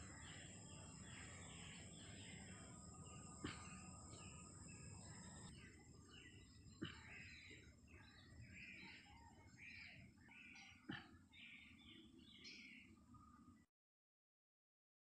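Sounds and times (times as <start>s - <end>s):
birds chirping: 0.0s - 13.7s.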